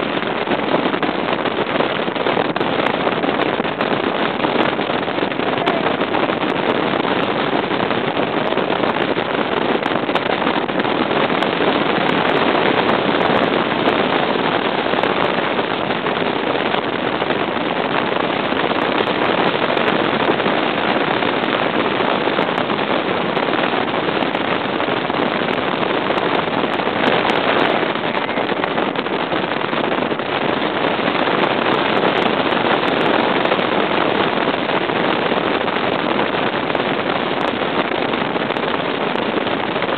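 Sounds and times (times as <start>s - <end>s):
outboard engine: 0.0s - 39.9s
water rushing along hull: 0.0s - 39.9s
wind on microphone: 0.0s - 39.9s.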